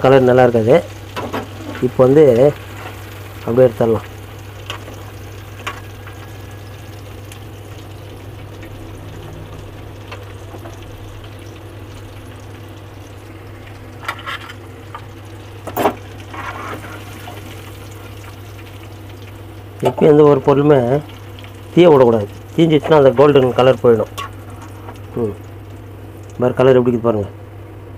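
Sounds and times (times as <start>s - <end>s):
hot oil bubbling in a pan: 0.0s - 27.7s.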